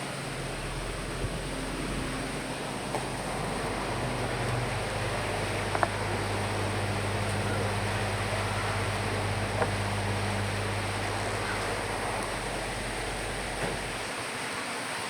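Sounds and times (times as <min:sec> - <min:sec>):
low steady hum: 0:00.0 - 0:14.1
rain and wind: 0:00.0 - 0:14.2.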